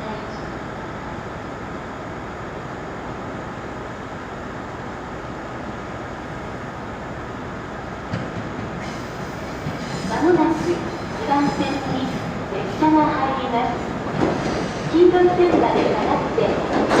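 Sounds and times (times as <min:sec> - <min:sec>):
electric train humming and hissing: 0:00.0 - 0:17.0.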